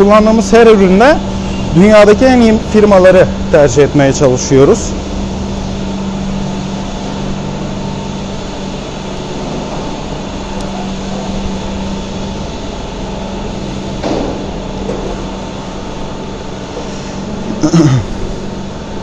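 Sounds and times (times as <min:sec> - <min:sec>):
milking machinery humming: 0:00.0 - 0:19.0.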